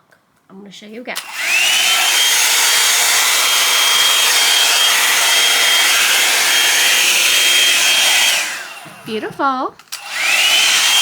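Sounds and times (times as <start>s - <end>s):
blow-dryer motor and air rush: 1.2s - 11.0s.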